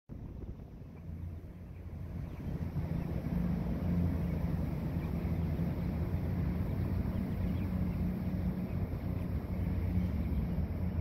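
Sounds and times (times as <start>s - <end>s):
low engine hum: 0.1s - 11.0s
wind rumble on microphone: 0.1s - 11.0s.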